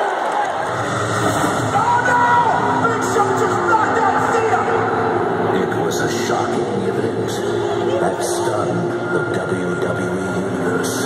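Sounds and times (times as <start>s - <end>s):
dramatic music over loudspeakers: 0.4s - 11.0s.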